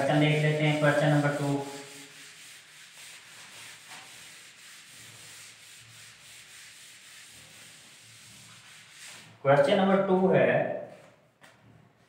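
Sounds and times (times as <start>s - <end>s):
eraser wiping a whiteboard: 0.0s - 10.2s.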